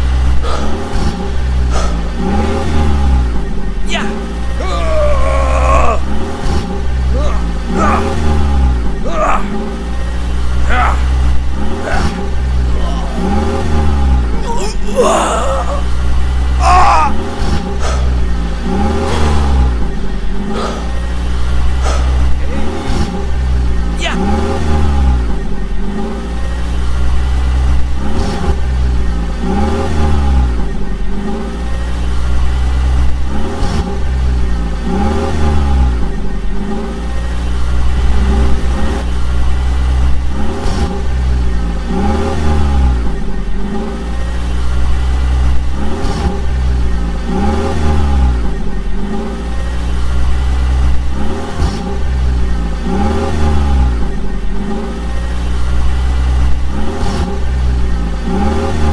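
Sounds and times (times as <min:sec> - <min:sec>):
vehicle engine revving: 0:00.0 - 0:58.9.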